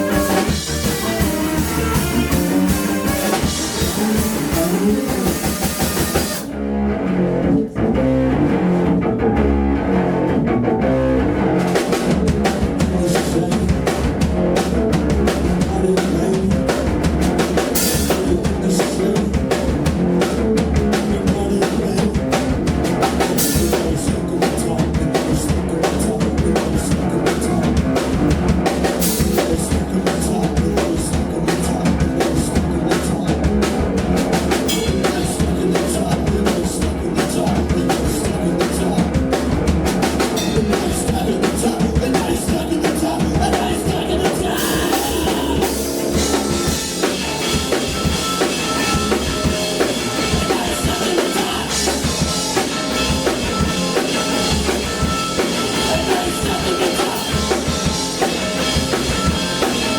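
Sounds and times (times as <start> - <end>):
drum kit with cymbals: 0.0 - 6.5, 11.6 - 59.9
live rock band playing: 0.0 - 59.9.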